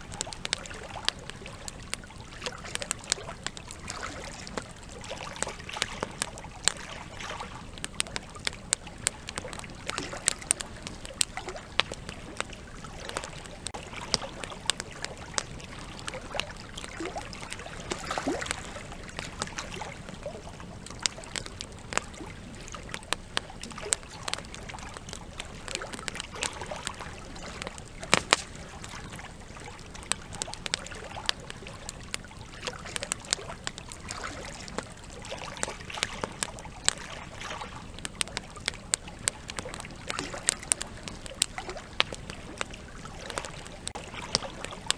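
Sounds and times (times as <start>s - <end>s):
river water flowing: 0.0s - 37.8s
campfire crackling and popping: 0.0s - 44.9s.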